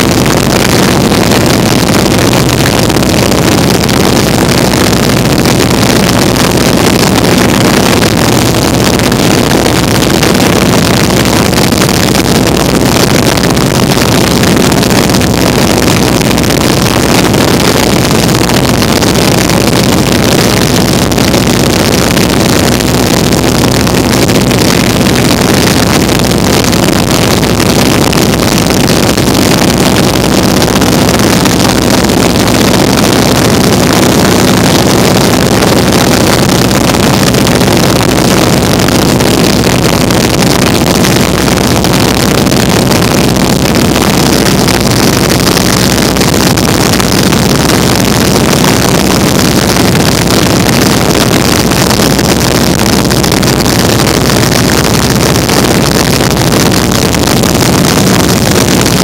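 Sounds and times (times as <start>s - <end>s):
biplane engine drone: 0.0s - 56.2s.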